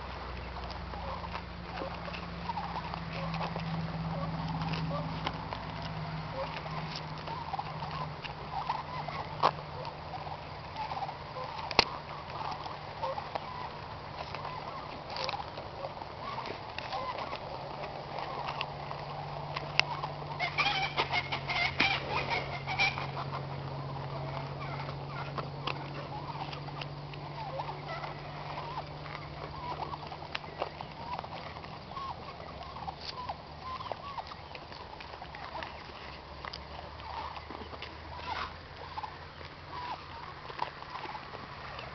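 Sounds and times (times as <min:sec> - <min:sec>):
birds chirping: 0:00.0 - 0:41.9
goat chewing an apple: 0:00.0 - 0:41.9.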